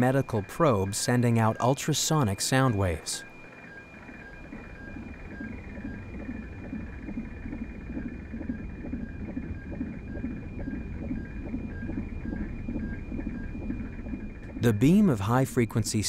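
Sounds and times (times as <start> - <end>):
fetal heartbeat pulsing whoosh: 0.0 - 16.0
thin steady electronic tones: 0.0 - 16.0.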